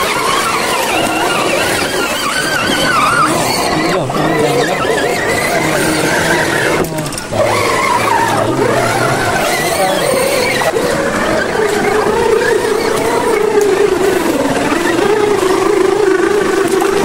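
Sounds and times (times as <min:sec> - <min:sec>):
toy car electric motor whine: 0:00.0 - 0:17.0.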